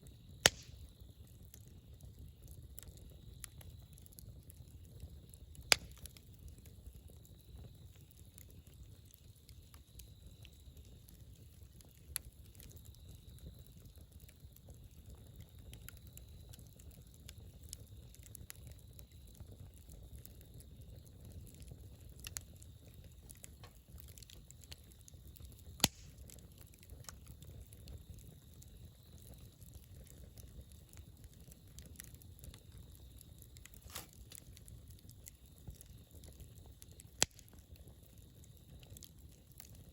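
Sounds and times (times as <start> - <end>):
campfire burning: 0.0 - 39.9
fire crackles and pops: 0.0 - 39.9.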